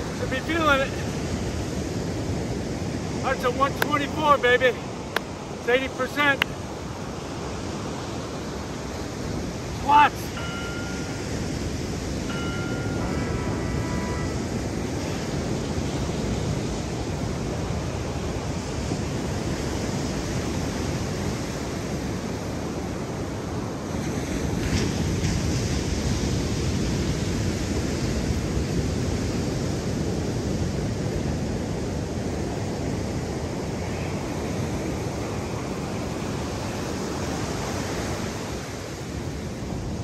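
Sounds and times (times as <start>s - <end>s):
ocean surf washing on beach: 0.0s - 40.0s
wind rumbling on microphone: 6.3s - 40.0s.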